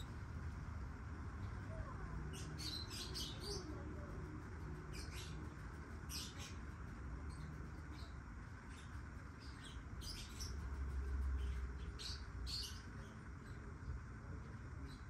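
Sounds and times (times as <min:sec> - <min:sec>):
lovebirds chirping: 0:01.4 - 0:13.8.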